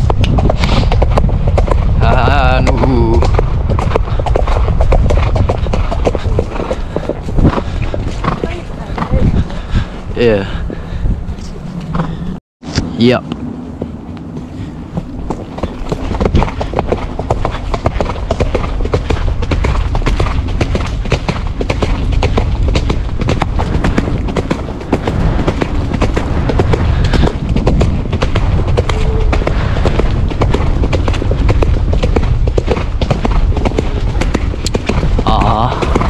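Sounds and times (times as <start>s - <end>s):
horse hooves on earth track: 0.0s - 12.2s, 13.2s - 36.0s.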